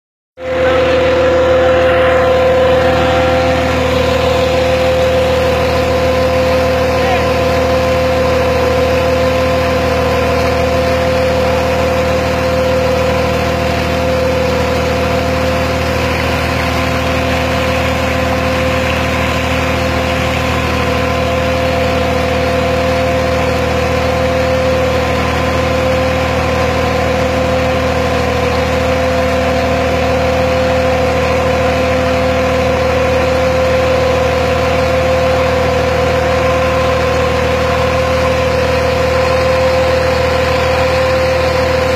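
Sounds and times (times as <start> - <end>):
pump engine humming: 0.4 - 41.9
water gushing from pipe: 0.4 - 41.9.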